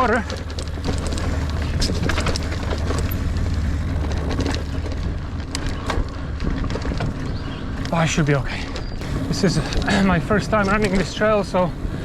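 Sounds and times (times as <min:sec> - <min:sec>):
bike clicks and rattles: 0:00.0 - 0:12.0
bike tyre noise on dirt: 0:00.0 - 0:12.0
low rumble: 0:00.0 - 0:12.0.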